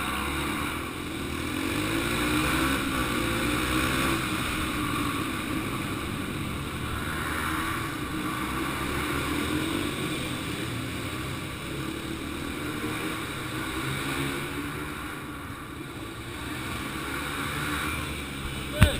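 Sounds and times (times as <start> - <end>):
dirt bike engines running hard: 0.0 - 18.9.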